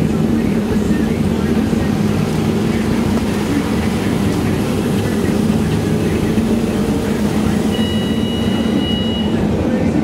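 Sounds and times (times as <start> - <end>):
bus engine drone: 0.0 - 10.0
road noise: 0.0 - 10.0.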